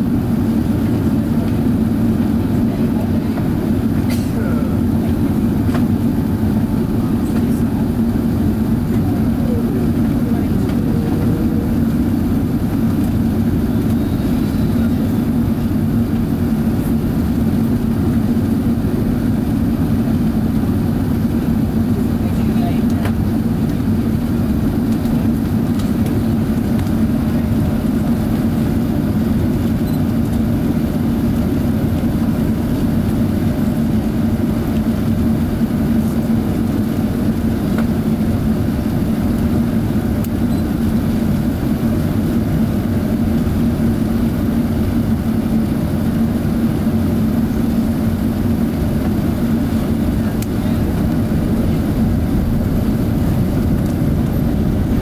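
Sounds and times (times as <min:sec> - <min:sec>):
airliner cabin airflow and engines: 0:00.0 - 0:55.0
steady low hum: 0:00.0 - 0:55.0.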